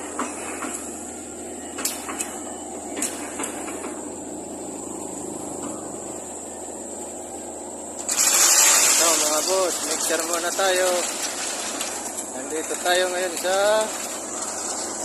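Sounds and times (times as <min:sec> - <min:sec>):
heavy machinery running: 0:00.0 - 0:15.0.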